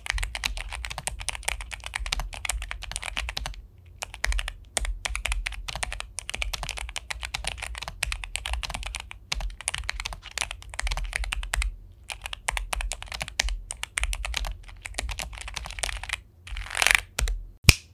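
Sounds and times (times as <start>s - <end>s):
mechanical keyboard typing: 0.0s - 17.4s.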